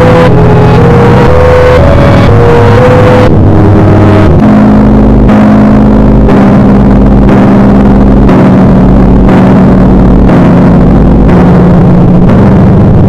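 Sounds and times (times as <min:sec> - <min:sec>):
deep bass pulse: 0:00.0 - 0:13.0
distorted droning tone: 0:00.0 - 0:13.0.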